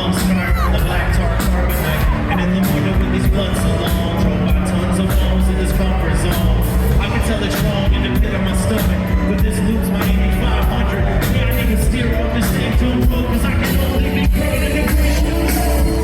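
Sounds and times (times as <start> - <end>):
live rock band playing: 0.0 - 16.0
person singing: 0.0 - 16.0.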